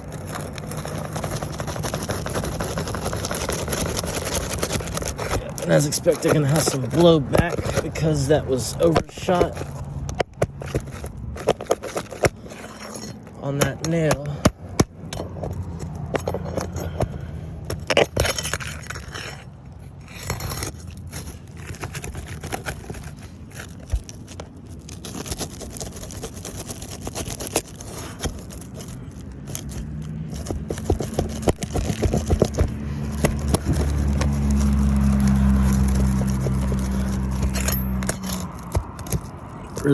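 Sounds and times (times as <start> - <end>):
engine hum: 0.0 - 39.9
metal tool scraping shingles: 0.0 - 39.9.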